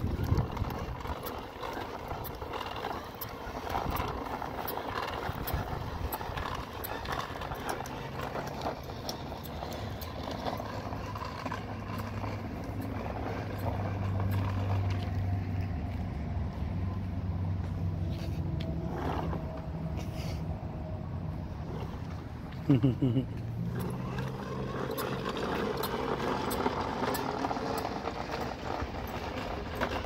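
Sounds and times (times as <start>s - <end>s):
toy wheels rattling on concrete: 0.0s - 16.2s, 18.0s - 20.2s, 23.4s - 30.0s
low engine hum: 0.0s - 30.0s.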